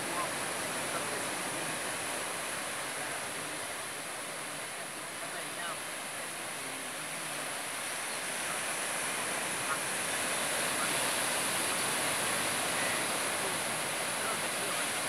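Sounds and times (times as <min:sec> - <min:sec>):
ocean waves breaking on rocks: 0:00.0 - 0:15.0.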